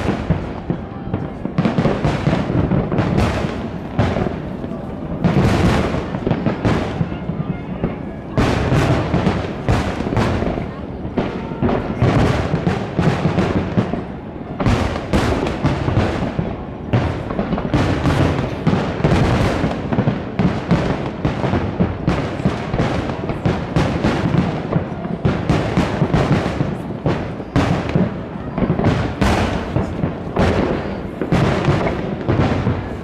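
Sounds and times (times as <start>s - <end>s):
fireworks booming and crackling: 0.0s - 33.0s.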